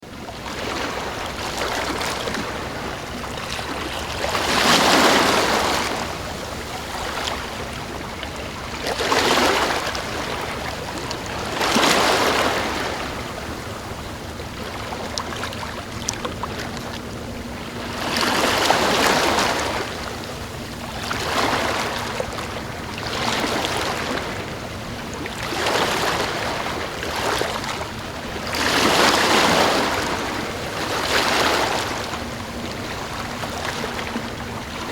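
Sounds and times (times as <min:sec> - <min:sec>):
waves breaking on a sandy beach: 0:00.0 - 0:34.9.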